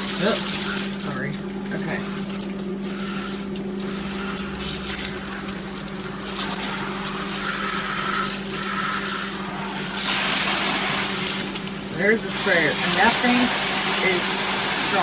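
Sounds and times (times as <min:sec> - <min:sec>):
steady low hum: 0:00.0 - 0:14.6
water spraying from shower head: 0:00.0 - 0:15.0.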